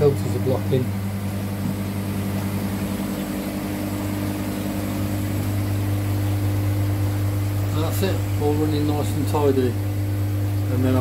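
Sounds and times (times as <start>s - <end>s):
pump motor humming: 0.0s - 11.0s.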